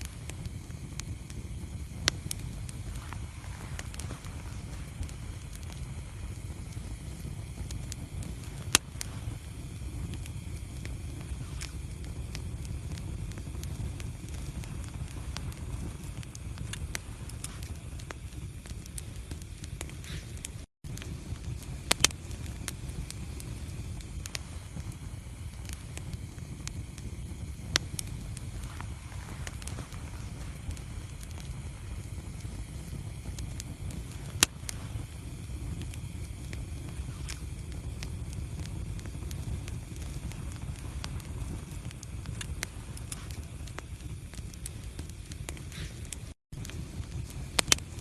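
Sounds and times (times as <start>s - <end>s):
fire crackling: 0.0s - 48.0s
fire flames rumbling: 0.0s - 48.0s
sharp pops of fire: 0.0s - 48.0s.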